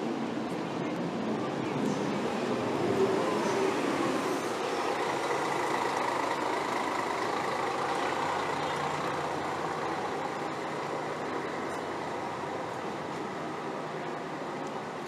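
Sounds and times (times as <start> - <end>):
bus engine running: 0.0 - 15.0
street traffic noise: 0.0 - 15.0.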